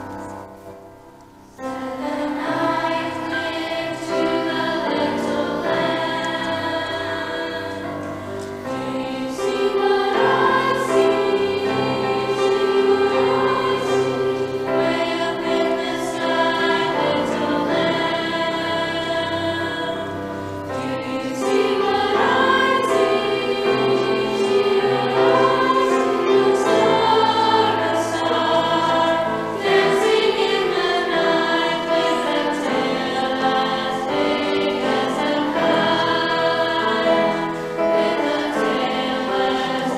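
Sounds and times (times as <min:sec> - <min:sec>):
choir singing christmas song: 0:00.0 - 0:39.9
grand piano accompaniment: 0:00.0 - 0:39.9.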